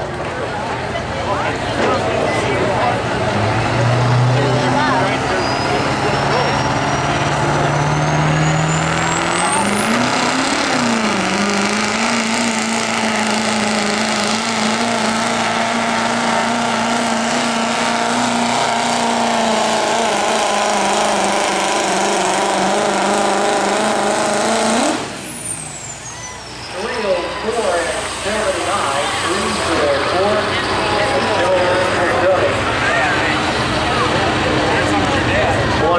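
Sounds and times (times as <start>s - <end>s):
pickup diesel engine at full throttle: 0.0s - 35.9s.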